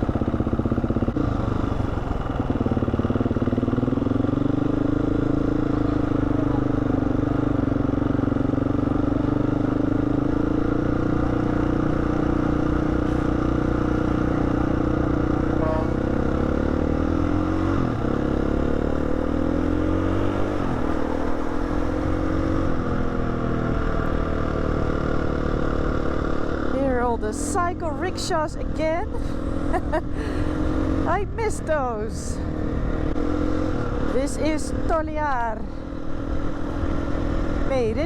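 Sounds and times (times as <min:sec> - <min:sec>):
dirt bike engine accelerating: 0:00.0 - 0:38.0.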